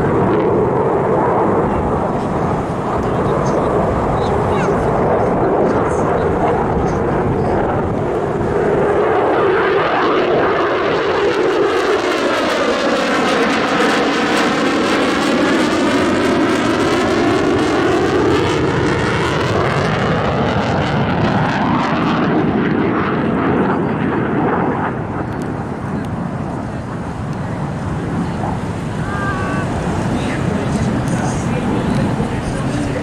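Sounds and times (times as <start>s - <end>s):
airplane flying past: 0.0s - 33.0s.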